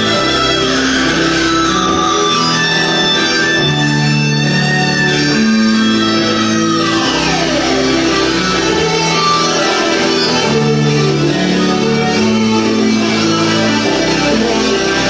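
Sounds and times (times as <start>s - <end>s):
plucked string melody: 0.0s - 15.0s
sustained low notes: 0.0s - 15.0s.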